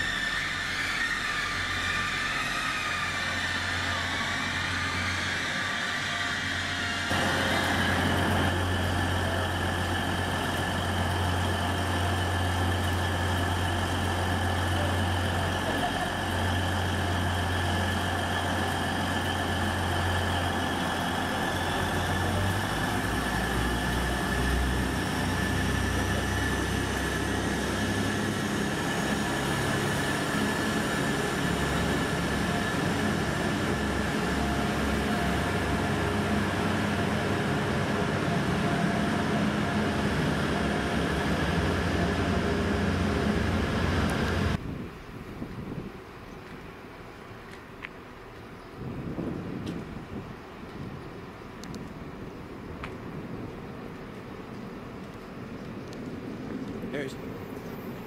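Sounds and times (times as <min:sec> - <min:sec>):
train diesel engines idling: 0:00.0 - 0:44.6, 0:50.0 - 0:58.0.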